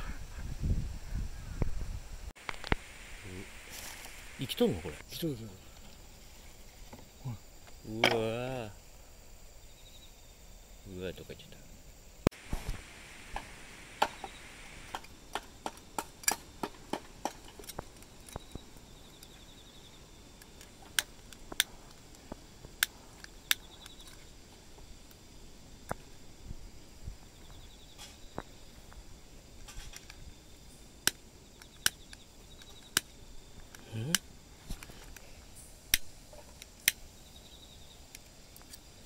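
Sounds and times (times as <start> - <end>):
faint insect trills: 0.0 - 39.0.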